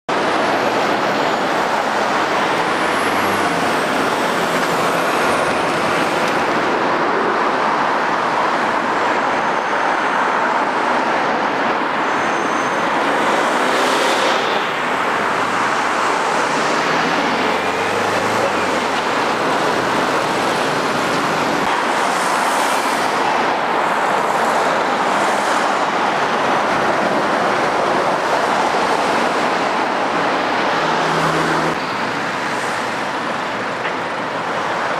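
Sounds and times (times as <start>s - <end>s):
road traffic passing: 0.1s - 34.9s.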